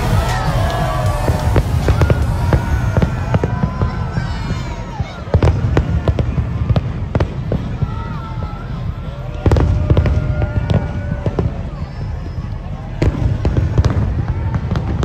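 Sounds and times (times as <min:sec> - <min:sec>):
crowd voices: 0:00.0 - 0:15.0
fireworks bangs and crackling: 0:00.0 - 0:15.0
music: 0:00.0 - 0:15.0.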